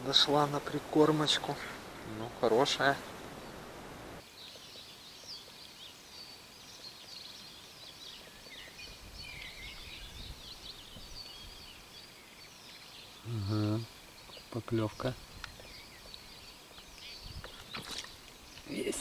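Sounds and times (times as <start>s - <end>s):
songbirds chirping and trilling: 0.0s - 19.0s.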